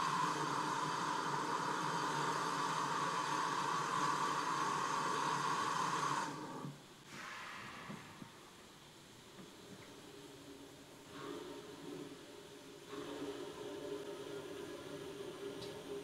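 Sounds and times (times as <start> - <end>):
steam hissing with whistling tone: 0.0 - 8.9, 10.1 - 16.0.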